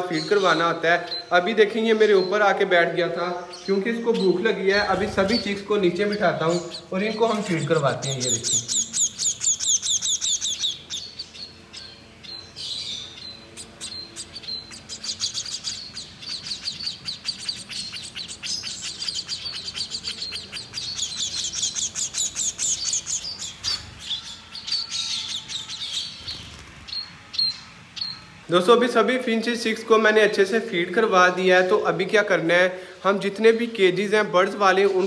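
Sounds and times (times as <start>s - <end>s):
chicks begging chirps: 0.0s - 35.0s.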